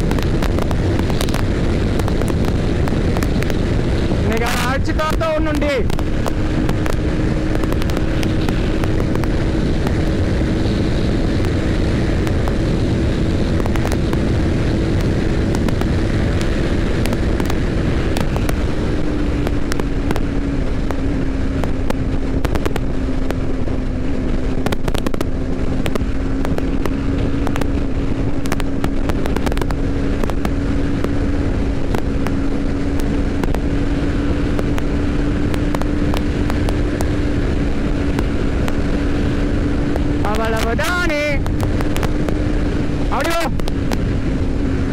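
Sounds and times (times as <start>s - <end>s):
motorcycle engine running: 0.0s - 44.9s
wind rush: 0.0s - 44.9s.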